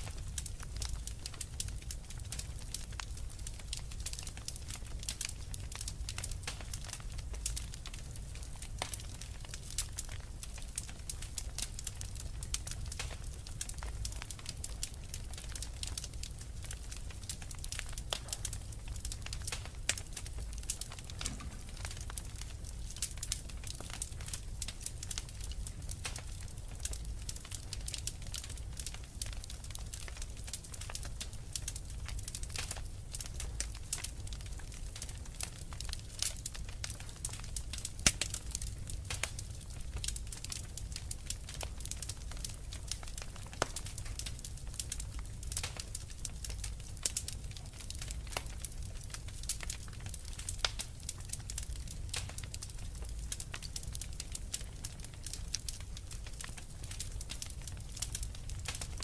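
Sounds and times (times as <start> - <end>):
fireplace fire crackling: 0.0 - 59.0.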